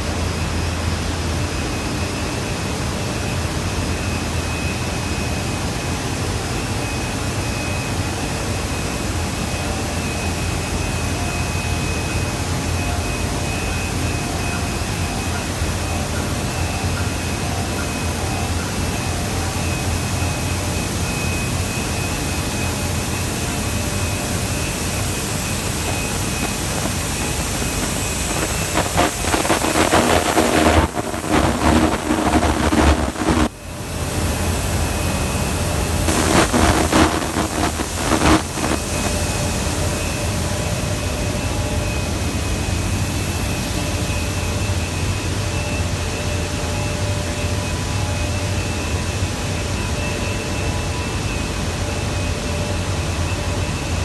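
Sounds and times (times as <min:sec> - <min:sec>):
faint high whine: 0:00.0 - 0:54.0
fans and motors rushing: 0:00.0 - 0:54.0
machinery low hum: 0:00.0 - 0:54.0.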